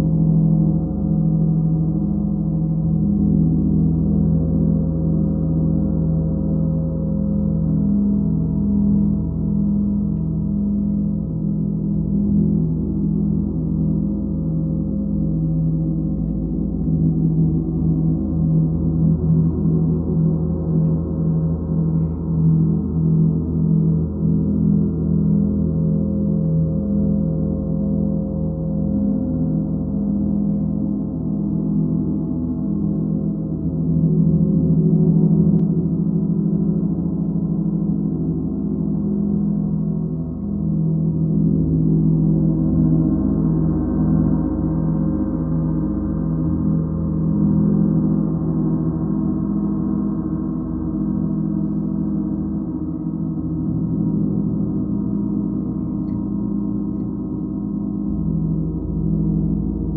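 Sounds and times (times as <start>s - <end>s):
gong droning: 0.0s - 59.9s.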